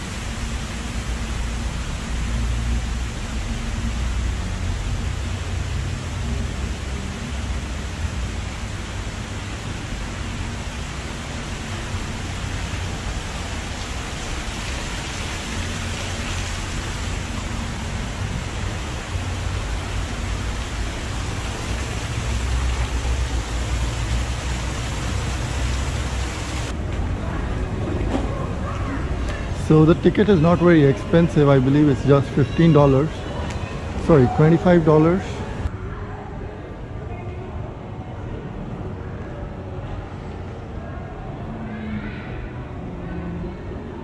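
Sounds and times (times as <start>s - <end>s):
water rushing and splashing: 0.0s - 35.7s.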